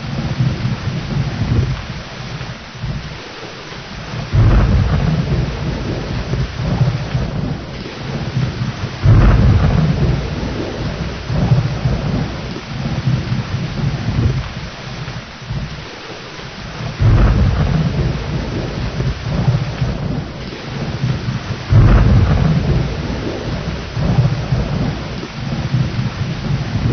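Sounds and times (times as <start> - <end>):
rolling thunder: 0.0 - 26.9
steady rain: 0.0 - 26.9.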